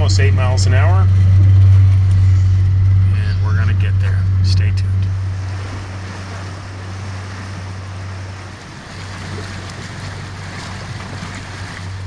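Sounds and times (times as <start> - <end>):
boat motor humming: 0.0 - 12.0
churning wake water: 0.0 - 12.0.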